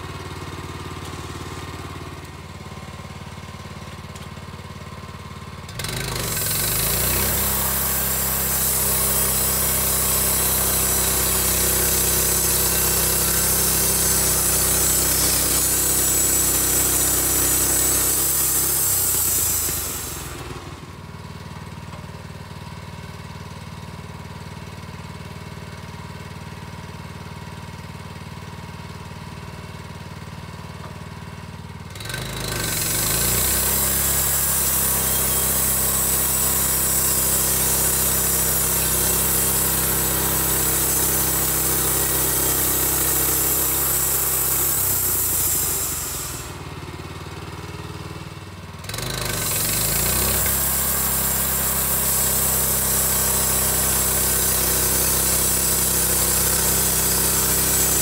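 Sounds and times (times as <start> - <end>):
sawmill engine idling and revving: 0.0 - 58.0.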